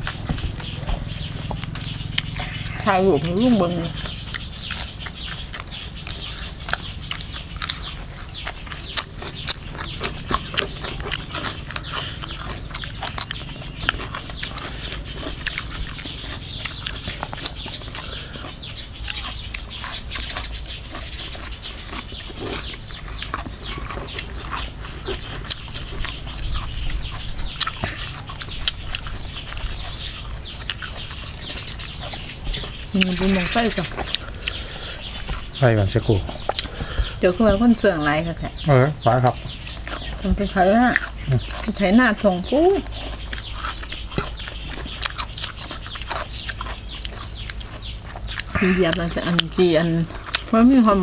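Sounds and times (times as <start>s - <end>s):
person chewing and lip smacking: 0.0s - 51.0s.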